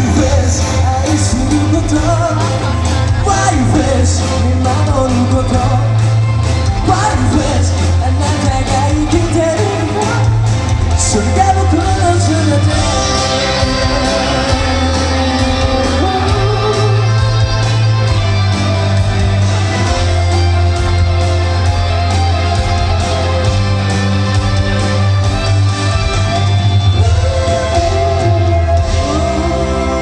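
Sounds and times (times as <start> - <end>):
heavy bass and drums: 0.0 - 30.0
live rock band with singer: 0.0 - 30.0.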